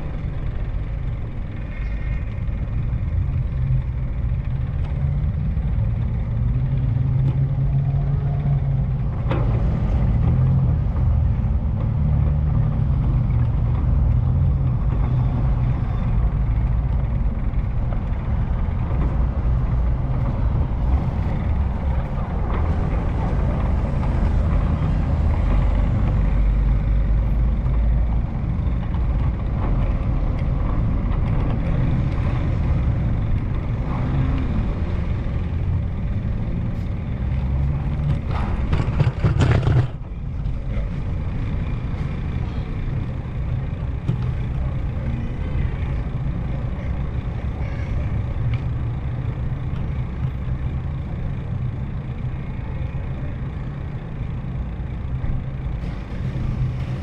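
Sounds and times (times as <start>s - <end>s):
engine and road rumble: 0.0s - 57.0s.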